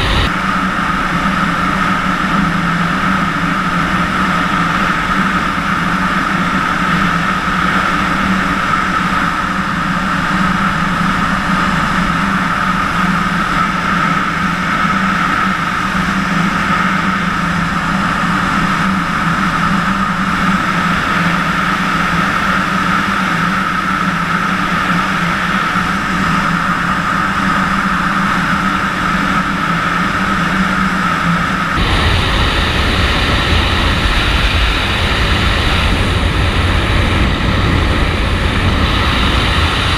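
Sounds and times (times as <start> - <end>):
rushing airflow: 0.0 - 3.6, 4.2 - 39.9
constant low hum: 0.0 - 39.9.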